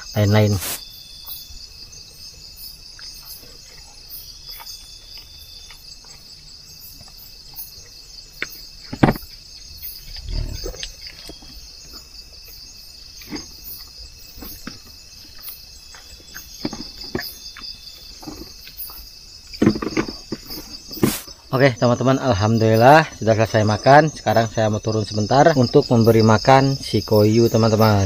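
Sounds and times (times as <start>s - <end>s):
night insects chirring: 0.0s - 28.0s.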